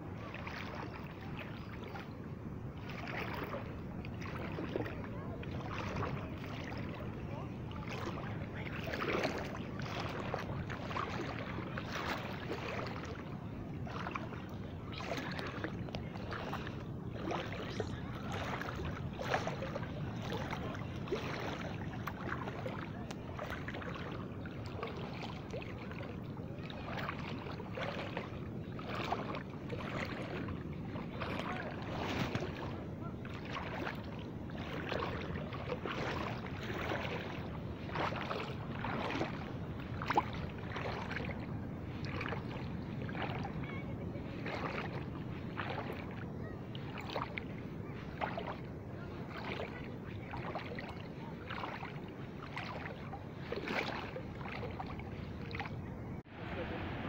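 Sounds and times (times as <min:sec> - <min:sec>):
small waves lapping: 0:00.0 - 0:57.0
water splashes: 0:00.0 - 0:57.0.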